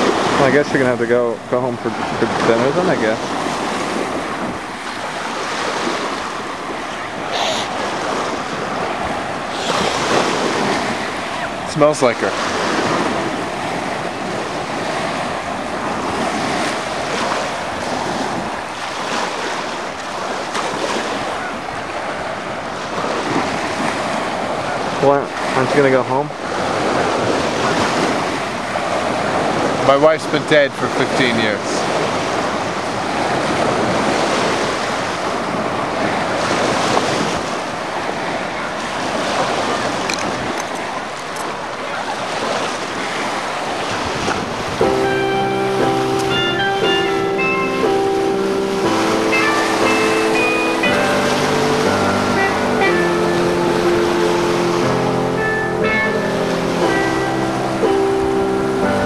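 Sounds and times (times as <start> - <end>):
small waves washing onto shore: 0.0 - 59.0
wind on microphone: 0.0 - 59.0.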